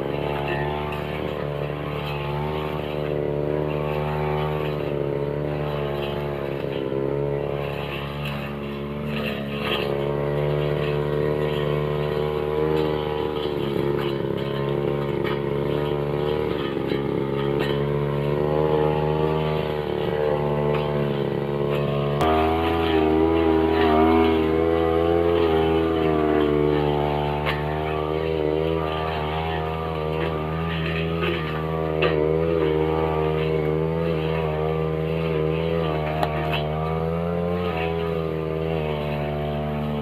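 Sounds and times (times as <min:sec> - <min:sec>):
blade cutting grass and stems: 0:00.0 - 0:40.0
brush cutter engine running: 0:00.0 - 0:40.0.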